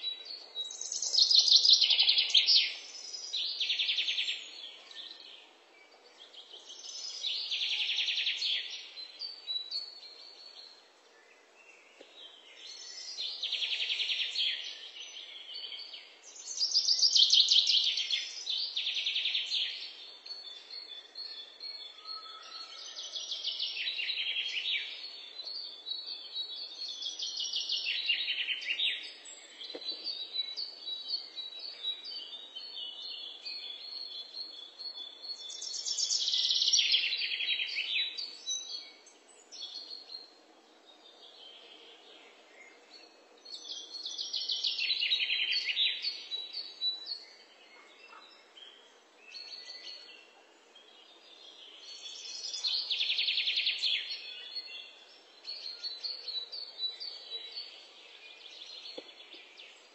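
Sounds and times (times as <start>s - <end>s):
quiet bird chirps: 0.0s - 59.9s.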